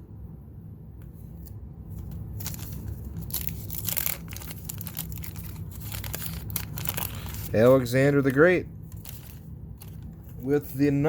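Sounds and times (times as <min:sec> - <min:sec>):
wax-paper wrapper crinkling: 0:02.0 - 0:11.0.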